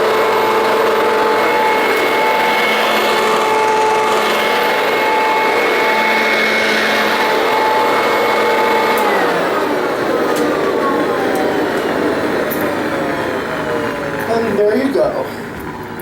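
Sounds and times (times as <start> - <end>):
upright vacuum cleaner running: 0.0 - 16.0.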